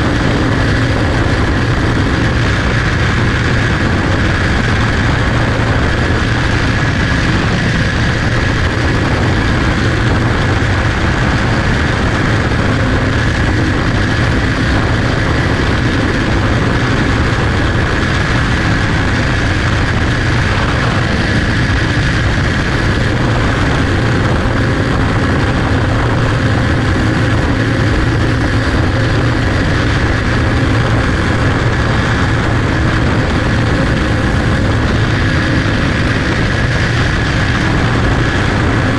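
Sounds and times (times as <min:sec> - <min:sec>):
racing car engine drone: 0:00.0 - 0:38.9
rushing wind noise: 0:00.0 - 0:38.9.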